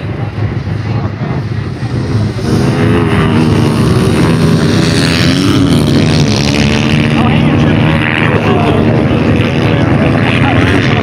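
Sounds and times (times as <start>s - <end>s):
pit bike engines racing past: 0.0s - 11.0s.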